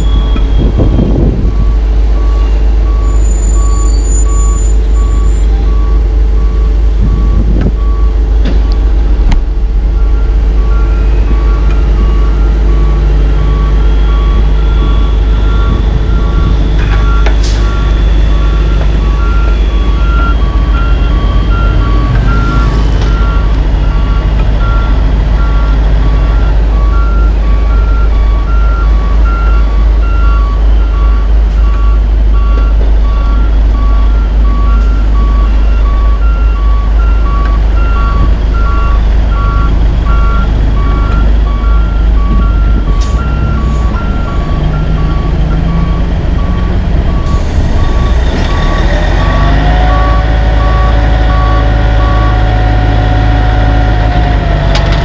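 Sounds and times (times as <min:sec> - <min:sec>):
backup alarm beeping: 0:00.0 - 0:08.3, 0:09.1 - 0:52.4
diesel engine rumble: 0:00.0 - 0:55.0
higher-pitched backup alarm: 0:09.5 - 0:54.4.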